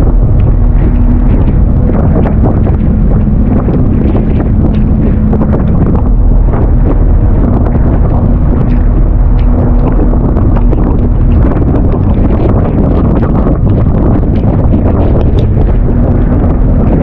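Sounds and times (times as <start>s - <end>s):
steady low hum: 0.0s - 17.0s
wind buffeting microphone: 0.0s - 17.0s.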